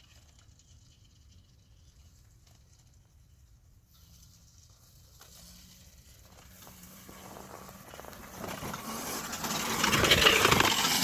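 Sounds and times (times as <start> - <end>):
tyres crackling on gravel: 0.0 - 11.0.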